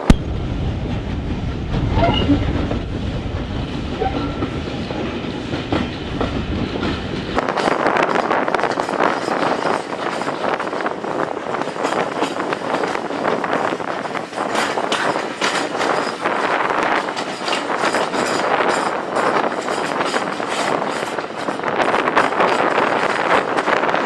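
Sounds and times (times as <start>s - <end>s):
train running on rails: 0.0s - 24.0s
wheels clicking over track: 4.0s - 24.0s.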